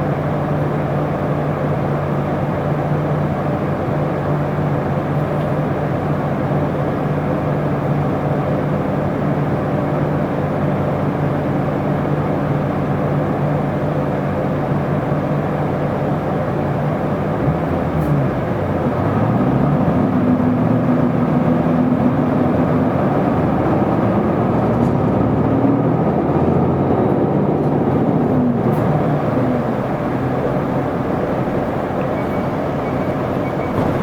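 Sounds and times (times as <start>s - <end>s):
bus diesel engine accelerating: 0.0s - 34.0s
road noise: 0.0s - 34.0s.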